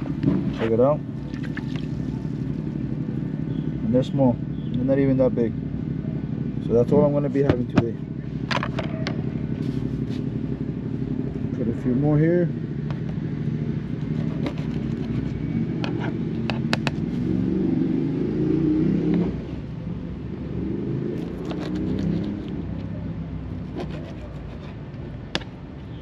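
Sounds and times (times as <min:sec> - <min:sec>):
low motor rumble: 0:00.0 - 0:26.0.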